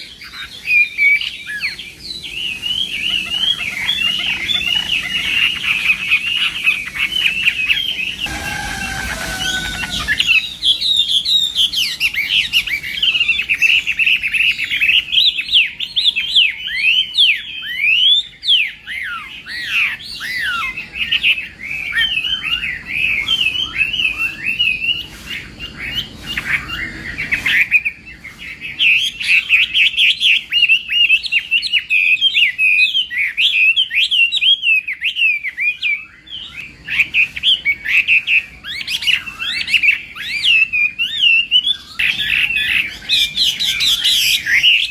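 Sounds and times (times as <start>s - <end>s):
songbird whistling varied song: 0.0s - 44.9s.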